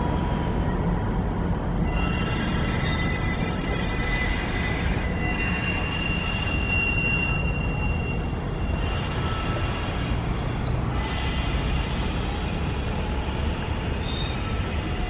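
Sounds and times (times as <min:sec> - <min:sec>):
passenger train rumble: 0:00.0 - 0:15.0
train wheel noise: 0:00.0 - 0:15.0
wind: 0:00.0 - 0:15.0.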